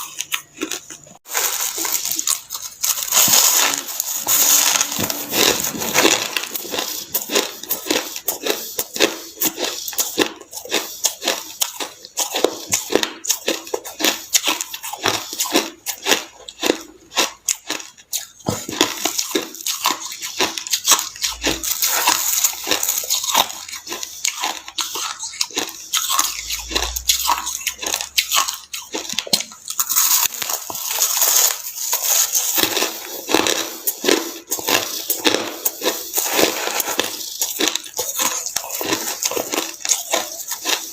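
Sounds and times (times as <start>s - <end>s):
ice being chewed crunching: 0.0s - 40.9s.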